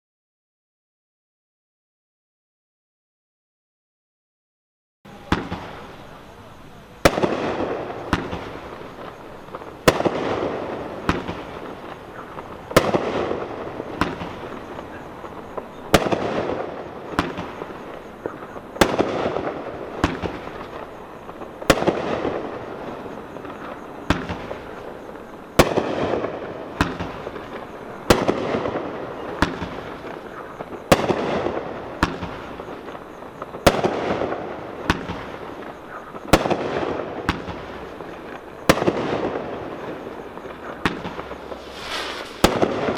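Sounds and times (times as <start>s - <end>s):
fireworks bangs: 5.1s - 42.9s.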